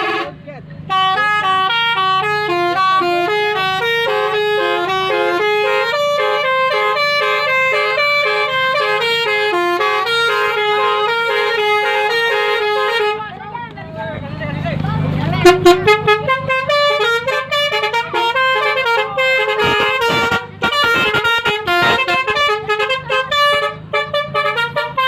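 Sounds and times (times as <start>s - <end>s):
bus horn playing a melody: 0.0s - 13.5s, 15.3s - 25.0s.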